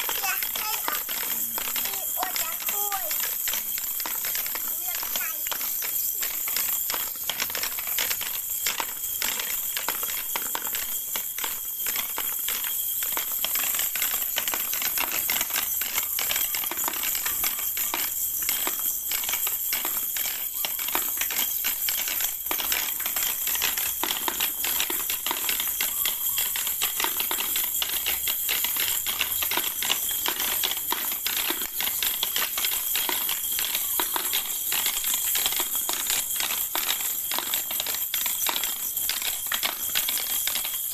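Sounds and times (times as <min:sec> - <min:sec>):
plastic balls rattling down ramps: 0:00.0 - 0:40.9.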